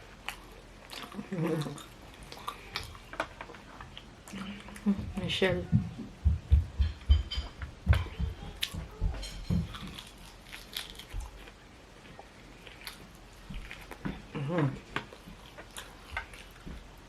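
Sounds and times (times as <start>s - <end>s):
person chewing food: 0.0s - 5.0s, 6.5s - 17.0s.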